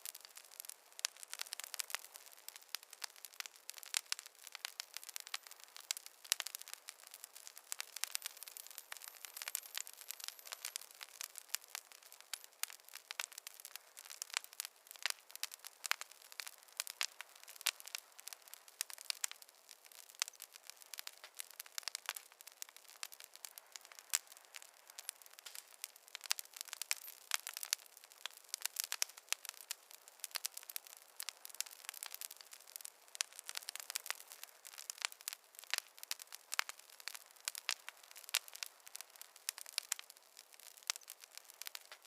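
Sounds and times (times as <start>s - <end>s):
fire crackling: 0.0s - 42.0s.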